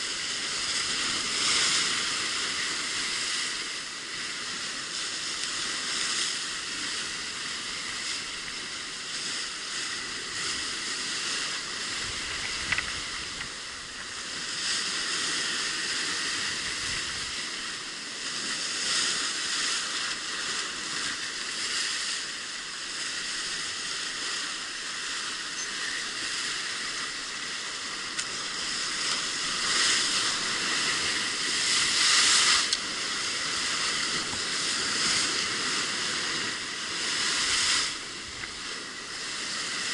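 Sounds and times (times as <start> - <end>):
surf breaking over rocks: 0.0 - 39.9.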